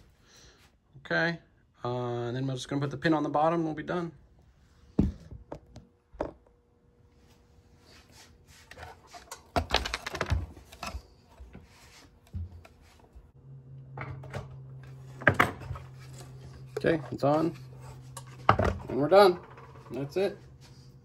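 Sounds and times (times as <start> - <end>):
space heater humming: 0.0 - 21.0.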